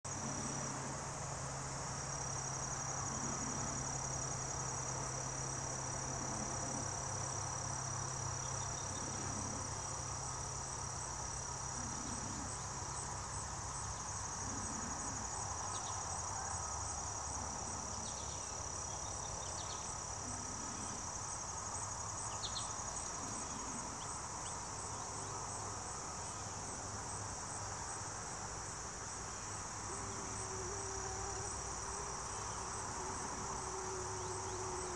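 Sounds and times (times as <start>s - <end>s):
high-pitched insect trill: 0.1s - 34.9s.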